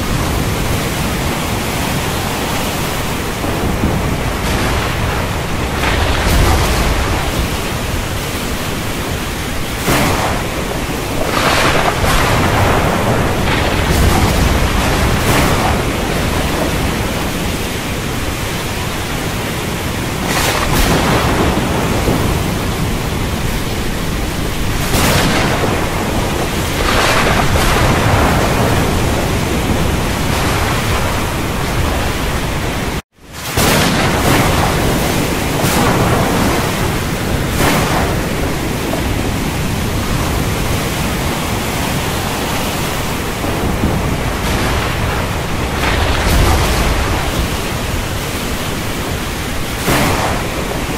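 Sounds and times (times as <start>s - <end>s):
deep thunder rumbles: 0.0s - 50.9s
dense storm noise: 0.0s - 50.9s.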